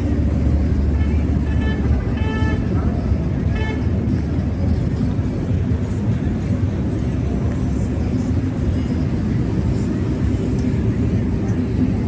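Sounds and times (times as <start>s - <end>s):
low rumble of city street: 0.0s - 12.0s.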